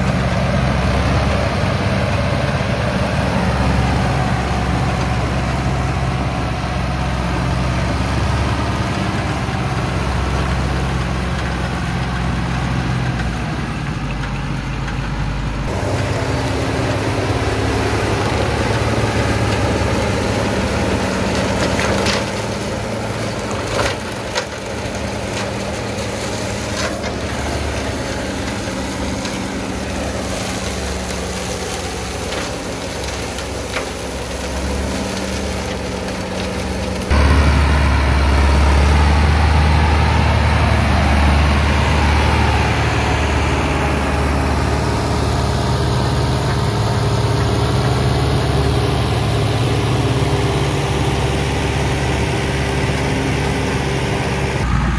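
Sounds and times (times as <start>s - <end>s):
flail mower cutting grass: 0.0s - 54.9s
tractor diesel engine running: 0.0s - 54.9s.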